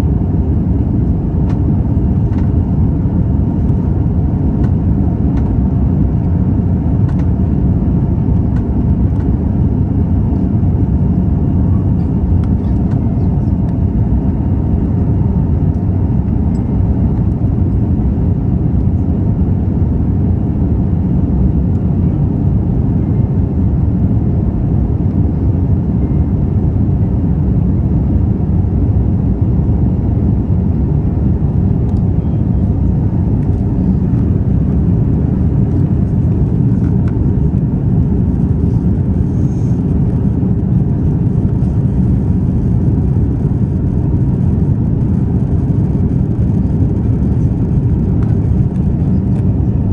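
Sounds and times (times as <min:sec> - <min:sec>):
airplane cabin engine rush: 0:00.0 - 0:49.9.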